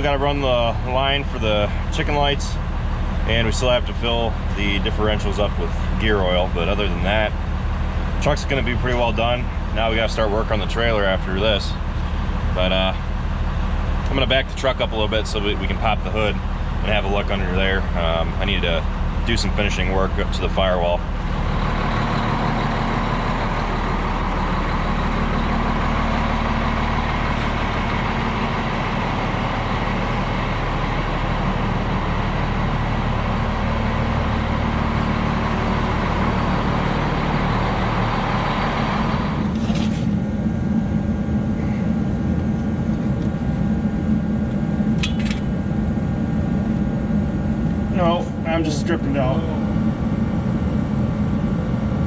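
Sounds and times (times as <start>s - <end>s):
diesel truck engine running: 0.0s - 52.0s.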